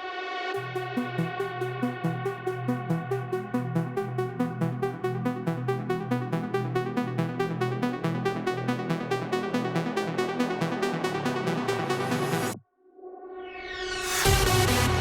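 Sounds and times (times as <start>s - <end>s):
electronic music with fast beat: 0.6s - 12.6s, 14.3s - 15.0s.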